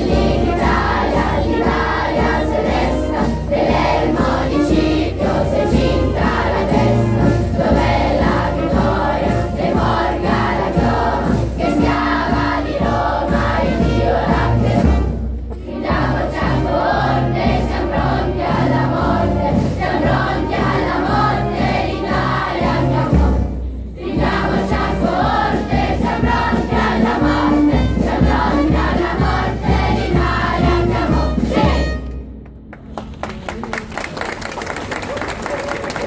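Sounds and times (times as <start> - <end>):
children's choir singing: 0.0 - 32.0
wind band playing: 0.0 - 36.0.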